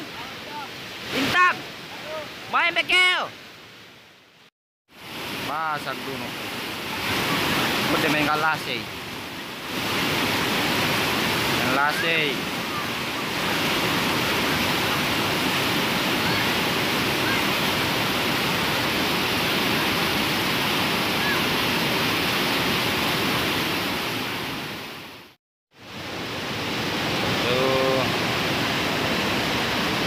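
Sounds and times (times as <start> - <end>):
floodwater rushing: 0.0 - 3.6, 5.0 - 30.0.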